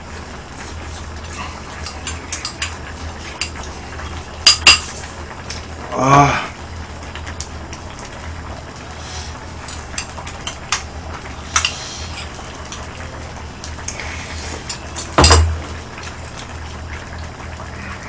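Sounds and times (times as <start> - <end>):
stew bubbling: 0.0 - 18.0.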